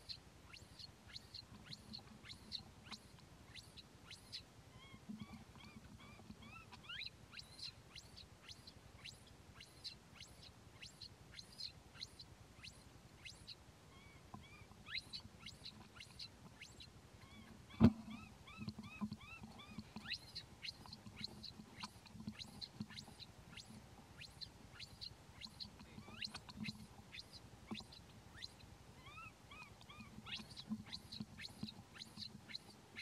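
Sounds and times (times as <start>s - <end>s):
infant monkey squeaking: 0.0s - 33.0s.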